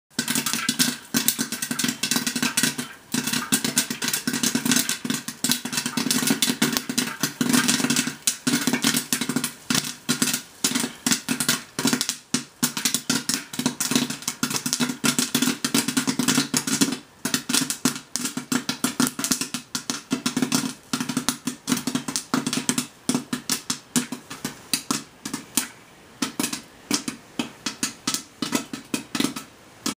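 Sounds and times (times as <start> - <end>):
popcorn kernels popping: 0.1 - 30.0.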